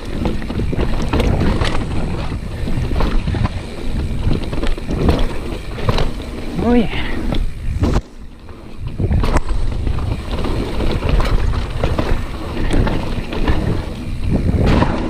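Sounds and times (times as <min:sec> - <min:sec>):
bike knocks and rattles: 0:00.0 - 0:15.0
bike tyres rumbling on trail: 0:00.0 - 0:15.0
wind buffeting microphone: 0:00.0 - 0:15.0.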